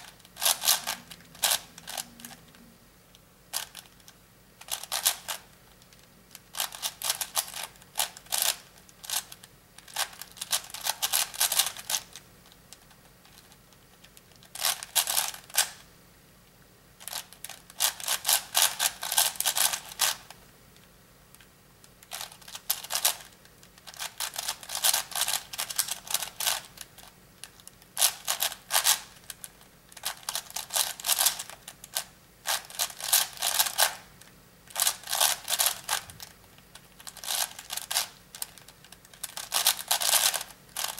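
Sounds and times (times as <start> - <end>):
puzzle cube plastic clicking: 0.2 - 2.6, 3.5 - 15.8, 17.0 - 40.9.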